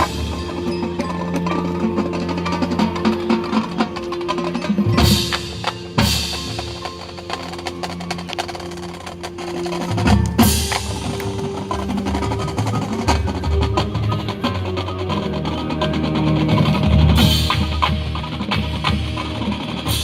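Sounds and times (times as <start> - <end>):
drum and wood-block strikes: 0.0 - 20.0.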